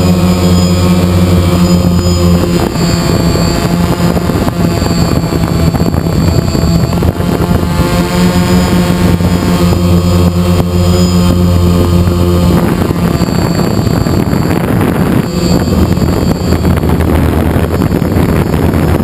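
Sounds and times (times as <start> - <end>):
drone propellers humming: 0.0 - 19.0.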